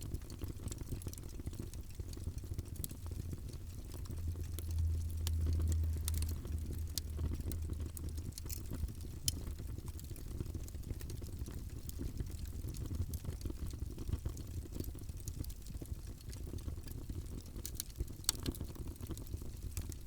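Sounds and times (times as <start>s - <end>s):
low rumble of fire: 0.0s - 20.0s
wood fire crackling and popping: 0.0s - 20.0s.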